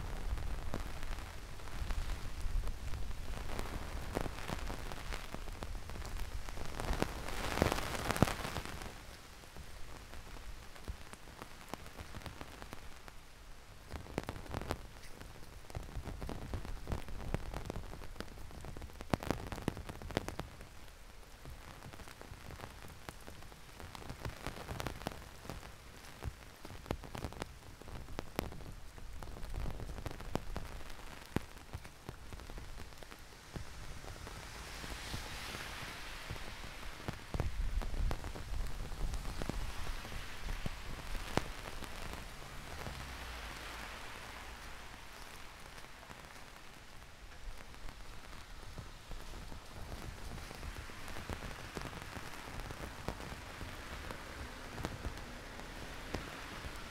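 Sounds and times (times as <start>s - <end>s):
heavy rain: 0.0s - 56.9s
raindrops ticking: 0.1s - 56.9s.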